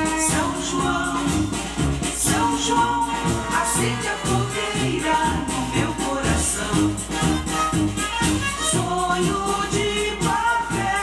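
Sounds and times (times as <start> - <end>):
accordion-led folk music with chorus: 0.0 - 11.0
shaker percussion: 0.0 - 11.0.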